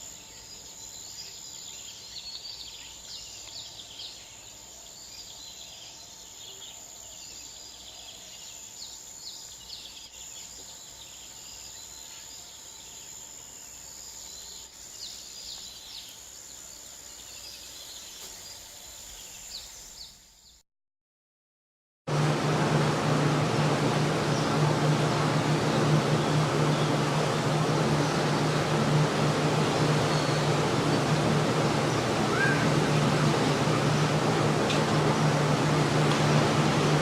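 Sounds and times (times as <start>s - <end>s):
high insect drone: 0.0s - 20.5s, 24.2s - 37.0s
small birds chirping: 0.0s - 20.6s, 25.6s - 35.6s.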